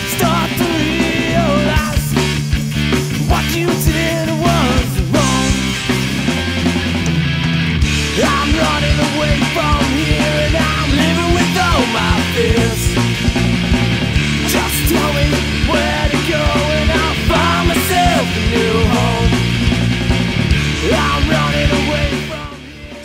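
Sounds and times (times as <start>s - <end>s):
punk rock song with singing: 0.0s - 23.0s.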